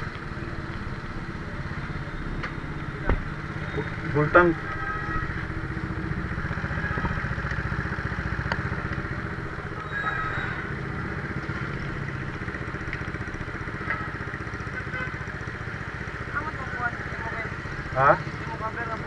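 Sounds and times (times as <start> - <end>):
motorcycle engine idling: 0.1 - 19.0.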